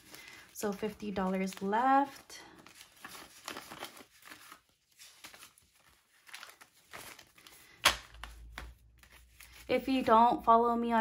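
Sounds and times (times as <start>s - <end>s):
banknotes rustling and crinkling: 0.0s - 11.0s.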